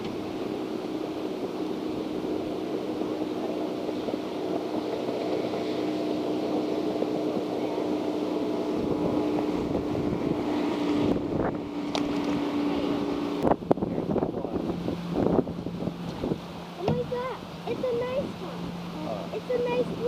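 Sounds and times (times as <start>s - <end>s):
boat motor humming: 0.0s - 20.0s
water noise: 0.0s - 20.0s
wind: 0.0s - 20.0s.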